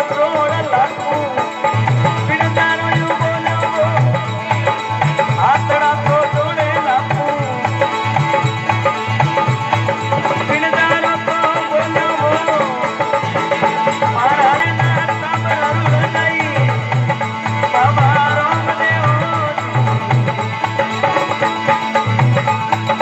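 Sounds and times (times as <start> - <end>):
hand drum beat: 0.0 - 23.0
ornamented folk melody: 0.0 - 23.0.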